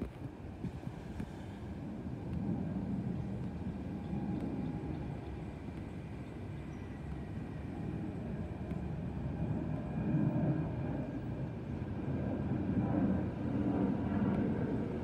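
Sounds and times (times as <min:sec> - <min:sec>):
airliner engines rumbling overhead: 0:00.0 - 0:15.0
faint engine whine: 0:00.0 - 0:15.0.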